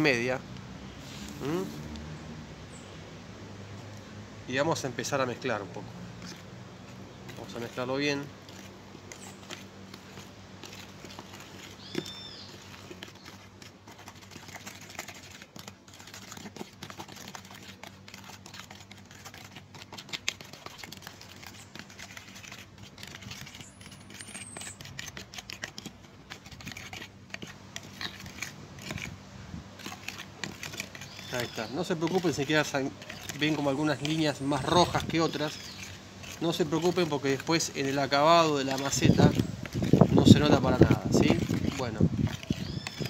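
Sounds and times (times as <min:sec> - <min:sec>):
spoon stirring wet paint: 0:03.8 - 0:43.0
spoon scraping foil dish: 0:06.2 - 0:43.0.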